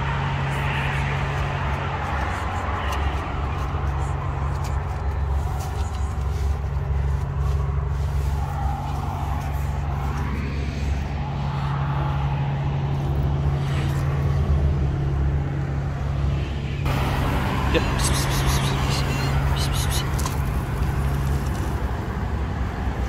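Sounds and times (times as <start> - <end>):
traffic engine hum: 0.0 - 23.0.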